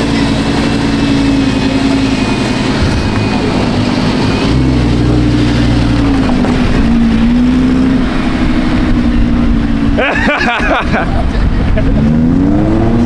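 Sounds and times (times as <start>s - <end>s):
sports car engine idling: 0.0s - 12.2s.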